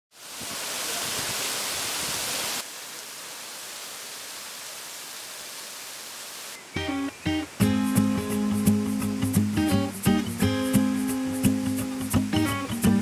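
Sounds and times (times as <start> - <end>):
waterfall rushing: 0.1 - 13.0.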